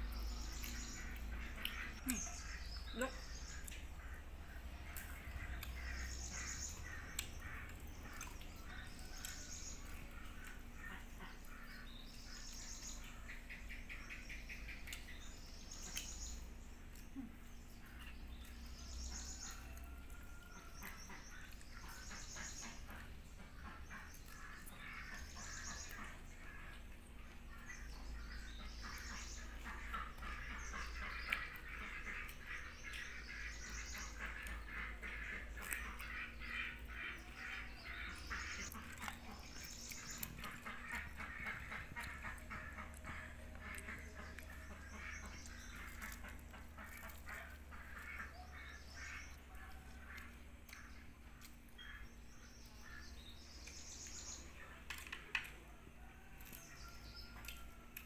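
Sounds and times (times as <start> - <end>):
bird chirps and trills: 0.0 - 55.2.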